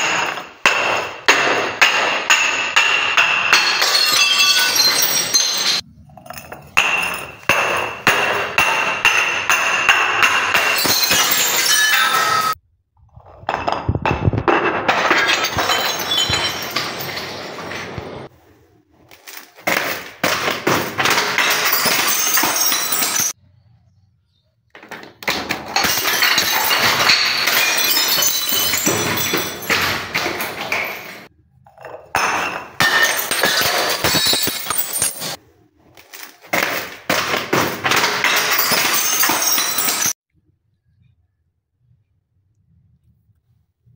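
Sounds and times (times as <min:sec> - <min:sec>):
glass bottles smashing: 0:00.0 - 0:12.6, 0:13.4 - 0:18.3, 0:19.1 - 0:23.4, 0:24.8 - 0:35.4, 0:36.0 - 0:40.2.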